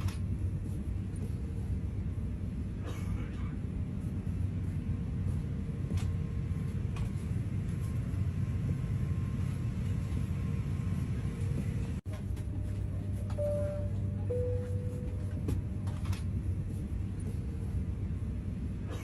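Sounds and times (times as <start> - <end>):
jet airliner cabin drone: 0.0 - 19.0.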